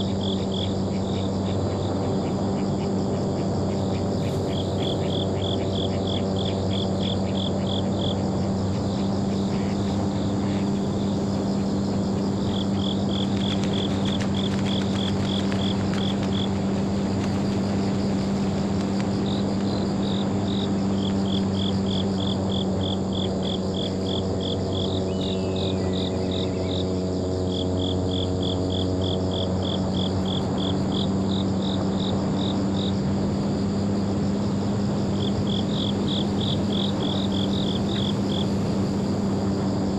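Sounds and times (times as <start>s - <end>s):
insects chirping in pulses: 0.0s - 39.9s
steady low drone: 0.0s - 39.9s.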